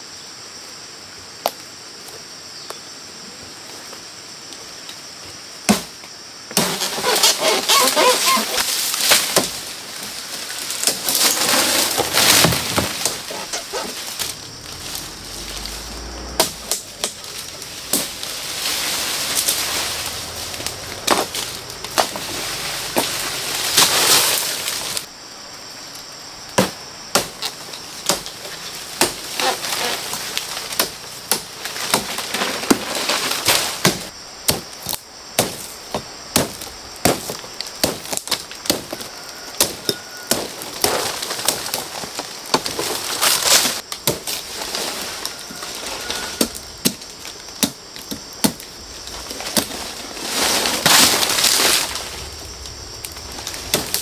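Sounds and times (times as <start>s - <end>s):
bamboo being chopped and split: 5.7s - 25.1s, 26.5s - 52.1s, 52.7s - 54.0s.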